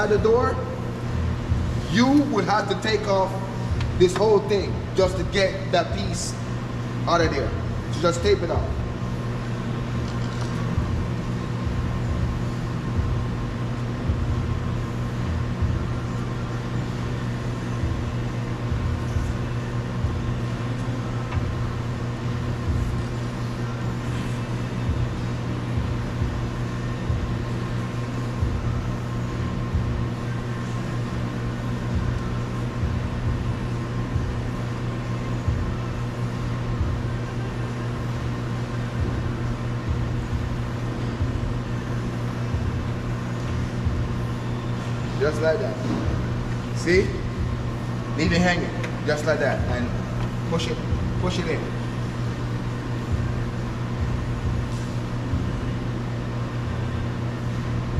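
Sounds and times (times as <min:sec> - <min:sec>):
low mechanical hum: 0:00.0 - 0:57.9.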